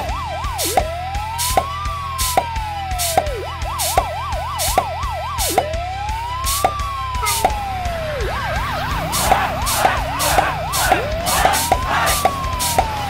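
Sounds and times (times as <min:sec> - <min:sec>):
police siren yelp and wail: 0:00.0 - 0:13.0.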